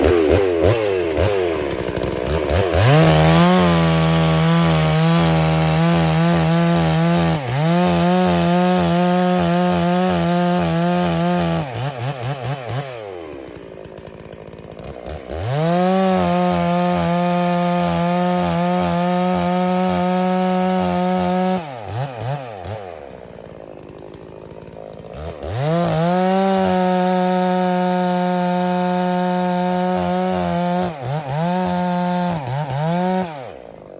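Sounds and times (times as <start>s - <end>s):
chainsaw cutting wood: 0.0s - 33.9s
chainsaw idling: 0.0s - 33.9s.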